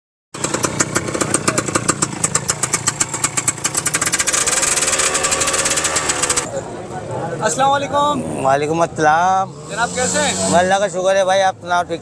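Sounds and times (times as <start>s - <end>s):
motorcycle engine revving: 0.4s - 6.7s, 8.0s - 11.7s.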